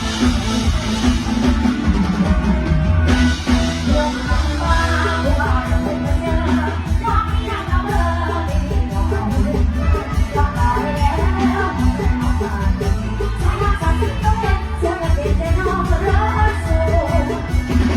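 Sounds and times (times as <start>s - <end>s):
heavy bass and drum kit: 0.0s - 17.9s
live band music: 0.0s - 17.9s
person singing: 3.1s - 17.9s.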